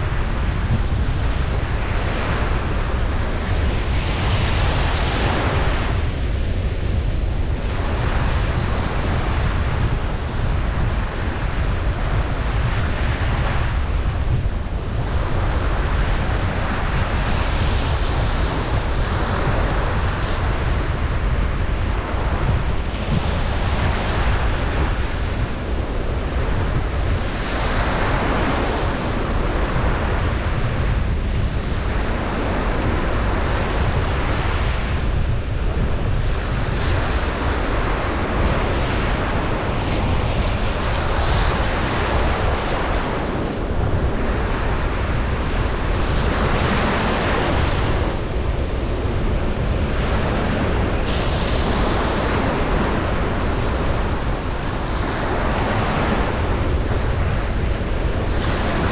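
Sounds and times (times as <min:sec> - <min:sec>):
ocean surf breaking on beach: 0:00.0 - 0:58.9.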